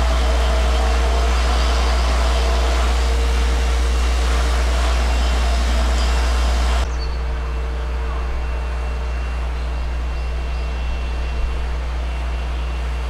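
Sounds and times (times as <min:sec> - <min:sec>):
constant hum: 0:00.0 - 0:13.0
machine rumble: 0:00.0 - 0:13.0.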